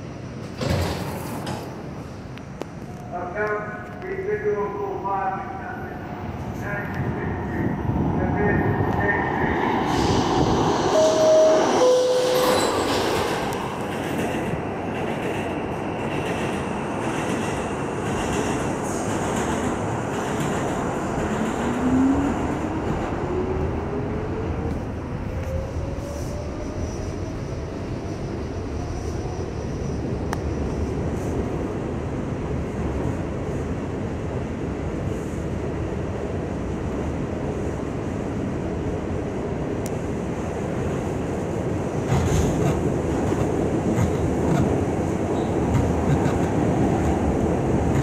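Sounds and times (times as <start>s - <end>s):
train wheel and track noise: 0.0s - 48.0s.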